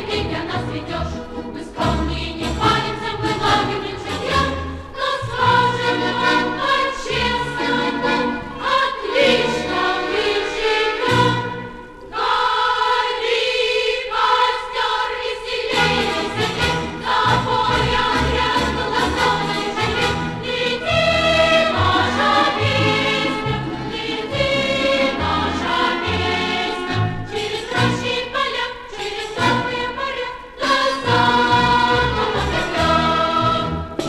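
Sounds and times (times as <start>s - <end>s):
choir singing with accompaniment: 0.0s - 34.0s.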